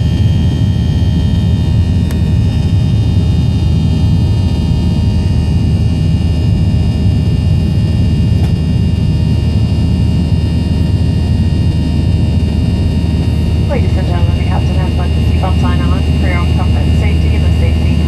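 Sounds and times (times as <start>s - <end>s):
high steady whine: 0.0s - 18.0s.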